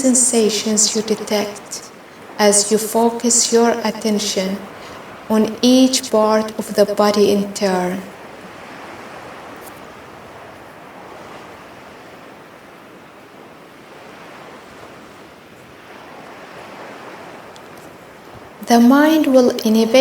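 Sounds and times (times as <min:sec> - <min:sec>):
ocean waves washing on shore: 0:00.0 - 0:20.0.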